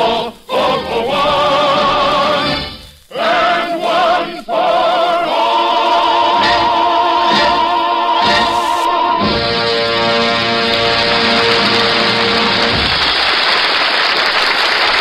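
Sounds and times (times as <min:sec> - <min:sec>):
choir and orchestra march song: 0:00.0 - 0:13.1.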